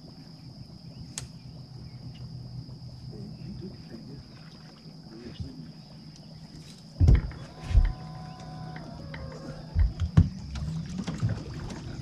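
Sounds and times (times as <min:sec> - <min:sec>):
high-pitched insect drone: 0:00.0 - 0:12.0
low hum: 0:00.0 - 0:12.0.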